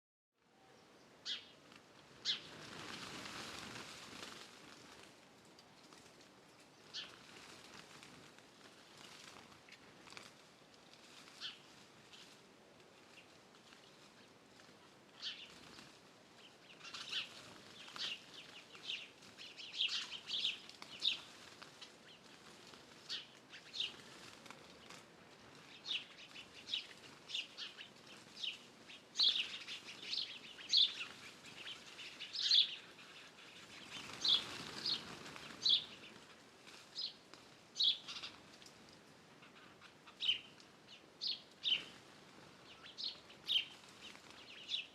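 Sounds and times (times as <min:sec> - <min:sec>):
songbirds chirping: 0:00.4 - 0:44.9.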